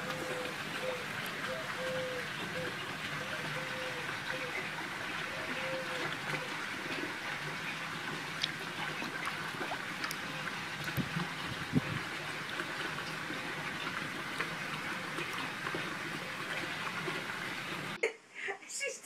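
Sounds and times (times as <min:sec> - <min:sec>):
fish splashing: 0:00.0 - 0:17.0
pond water trickling: 0:00.0 - 0:18.0.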